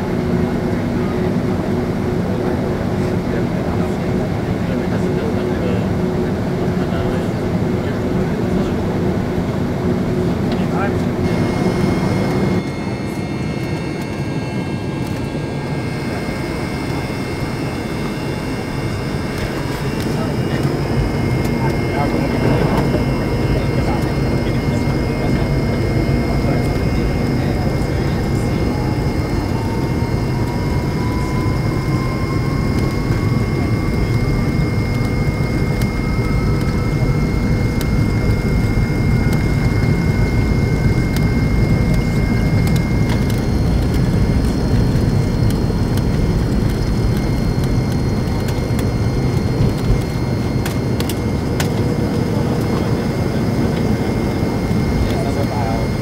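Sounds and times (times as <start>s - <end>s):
jet engine and cabin rush: 0.0s - 56.0s
faint rising whine: 10.6s - 56.0s.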